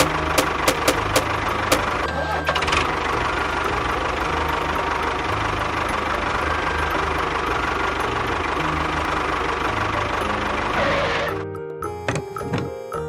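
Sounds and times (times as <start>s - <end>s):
small engine running: 0.0s - 11.4s.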